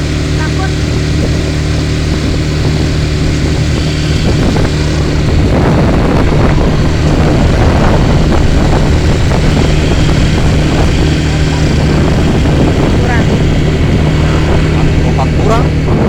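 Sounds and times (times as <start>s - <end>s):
atv engine running: 0.0s - 16.0s
rushing noise: 0.9s - 16.0s.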